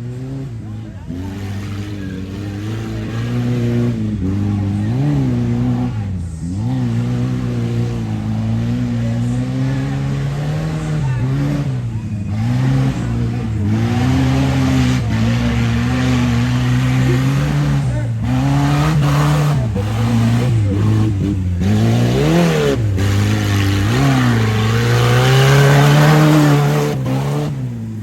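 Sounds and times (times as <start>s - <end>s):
race vehicle engine revving: 0.0s - 28.0s.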